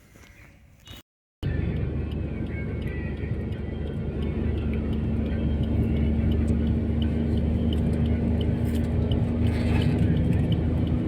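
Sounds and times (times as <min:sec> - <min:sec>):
vehicle engine running: 0:01.4 - 0:11.0.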